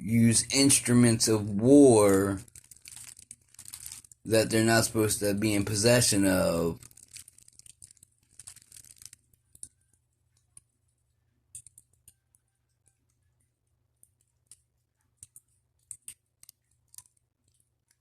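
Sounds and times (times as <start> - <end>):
faint crackles and clicks: 0.4 - 18.0.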